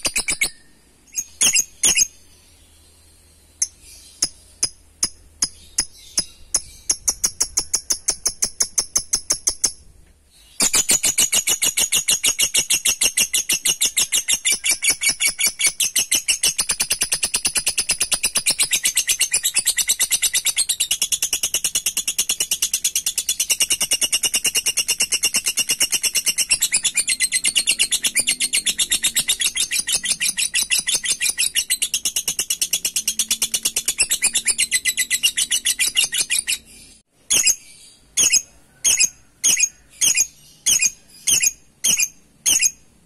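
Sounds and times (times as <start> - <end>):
lovebird chattering trill: 0.0 - 2.2, 3.6 - 9.8, 10.5 - 42.8
lovebird calls: 0.0 - 2.3, 10.4 - 42.8.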